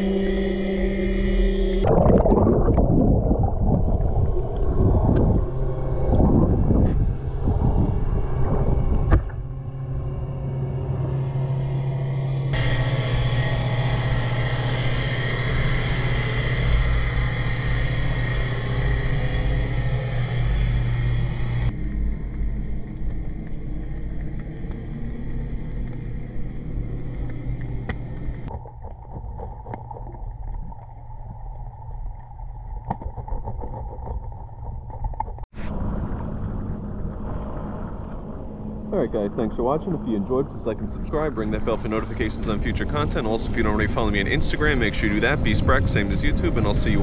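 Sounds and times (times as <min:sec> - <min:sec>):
underwater hum and rumble: 0:00.0 - 0:47.0.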